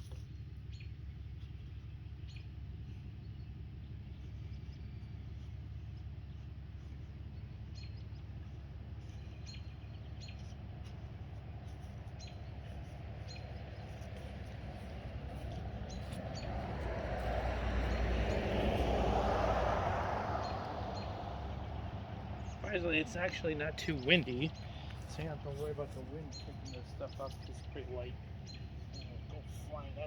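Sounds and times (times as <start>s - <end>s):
small birds chirping: 0.0s - 19.8s, 20.4s - 30.0s
low outdoor hum: 0.0s - 30.0s.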